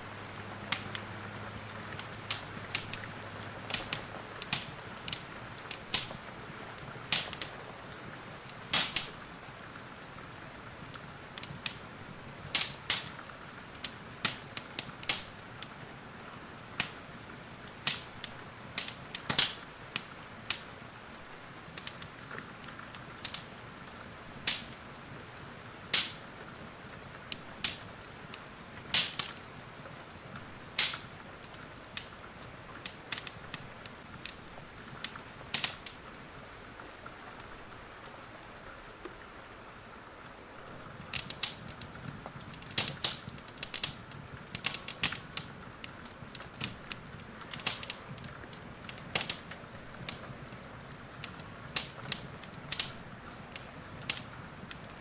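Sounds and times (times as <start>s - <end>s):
wood fire crackling and popping: 0.0s - 36.2s, 40.5s - 55.0s
rain hissing: 0.0s - 55.0s.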